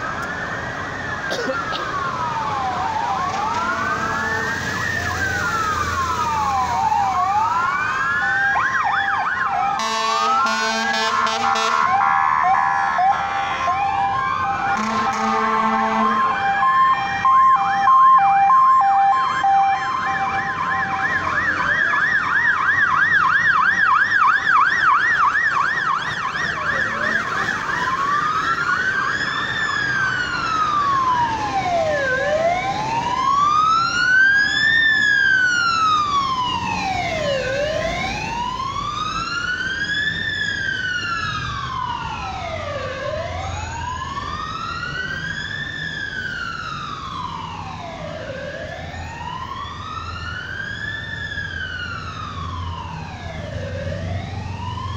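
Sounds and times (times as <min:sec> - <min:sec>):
emergency vehicle sirens: 0:00.0 - 0:54.9.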